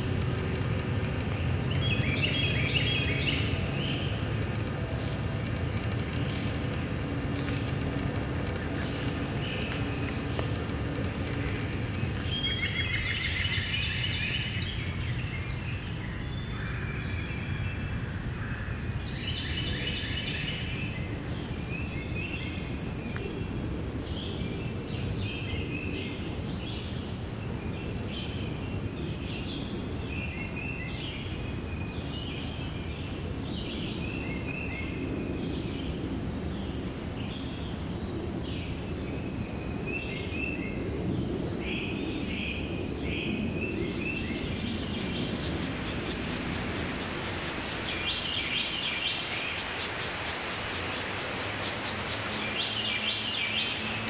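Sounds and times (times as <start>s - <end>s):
low background rumble: 0.0s - 53.8s
small birds singing: 0.7s - 54.0s
high-pitched insect drone: 1.5s - 54.0s.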